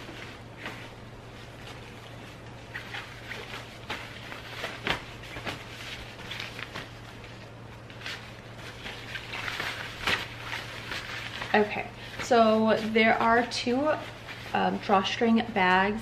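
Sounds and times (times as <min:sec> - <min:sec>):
fabric bags rustling: 0:00.0 - 0:15.5
low steady hum: 0:00.0 - 0:16.0.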